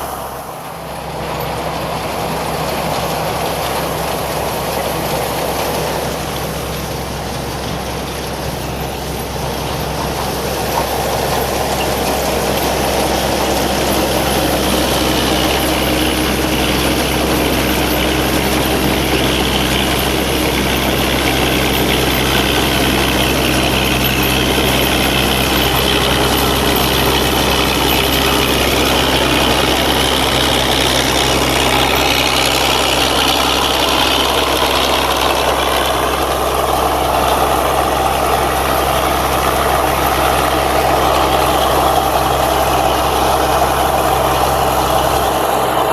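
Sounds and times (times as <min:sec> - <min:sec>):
diesel engine running: 0:00.0 - 0:45.9
machinery noise: 0:00.0 - 0:45.9.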